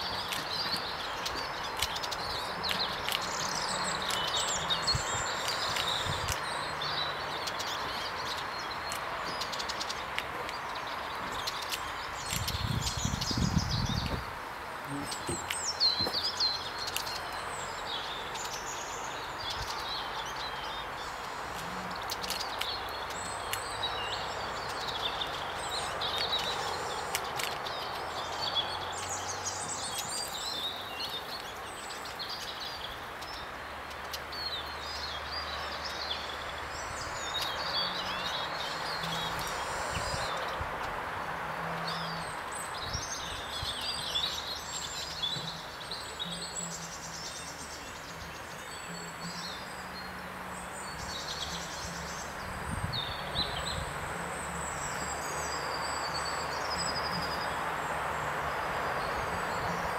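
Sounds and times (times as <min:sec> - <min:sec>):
songbirds chirping and singing: 0:00.0 - 0:59.9
woodland ambience hiss: 0:00.0 - 0:59.9.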